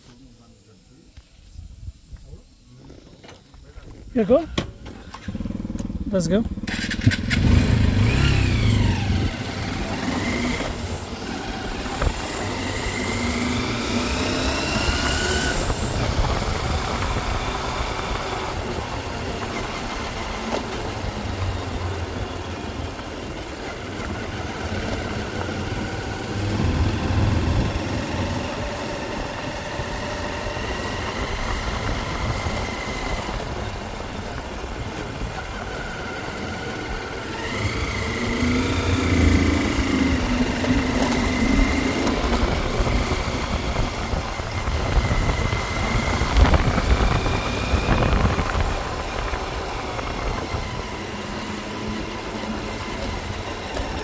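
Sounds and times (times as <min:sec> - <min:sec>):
road noise: 0:00.0 - 0:54.0
vehicle engine speeding up and slowing: 0:05.3 - 0:54.0.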